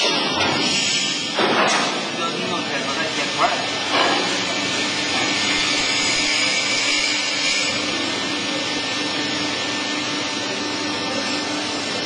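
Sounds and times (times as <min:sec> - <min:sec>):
electric motor and hydraulic pump running: 0:00.0 - 0:12.0.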